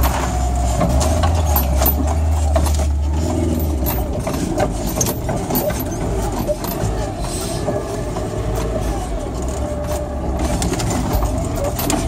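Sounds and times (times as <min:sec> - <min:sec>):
car body rattling and knocking: 0:00.0 - 0:12.0
car engine running low: 0:00.0 - 0:12.0.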